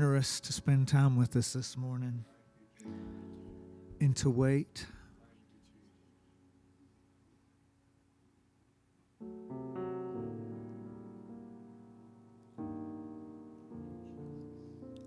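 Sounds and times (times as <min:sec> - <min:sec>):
piano playing soft chords: 0:00.0 - 0:15.0.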